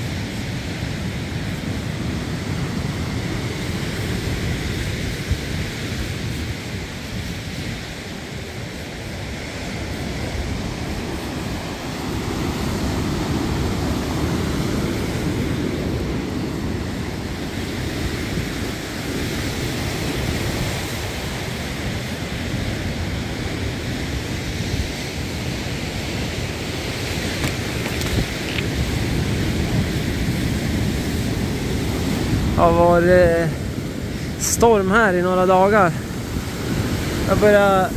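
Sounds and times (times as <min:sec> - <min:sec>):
wind buffeting microphone: 0:00.0 - 0:34.8
surf waves breaking: 0:00.0 - 0:37.9.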